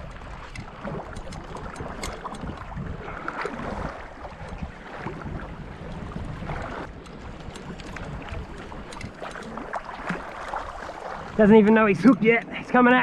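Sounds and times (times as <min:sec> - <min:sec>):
shallow sea water lapping: 0:00.0 - 0:13.0
wind buffeting microphone: 0:00.0 - 0:13.0.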